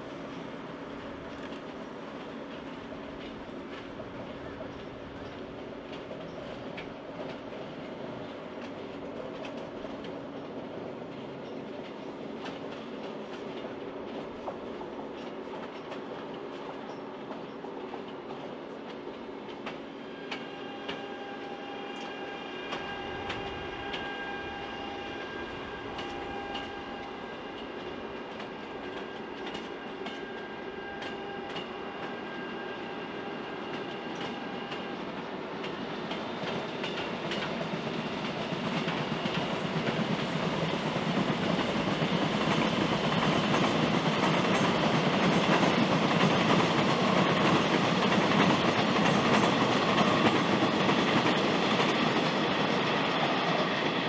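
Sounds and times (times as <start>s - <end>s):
train wheels clicking over rail joints: 0.3s - 21.1s, 25.1s - 32.9s, 33.5s - 54.0s.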